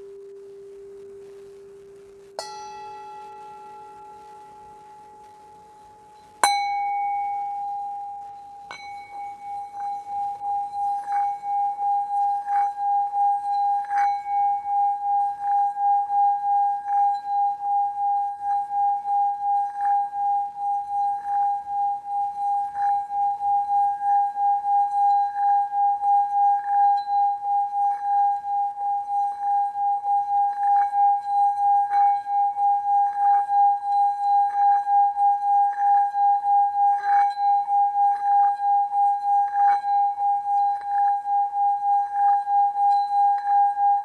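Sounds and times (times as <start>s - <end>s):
singing bowl ringing: 2.3s - 44.0s.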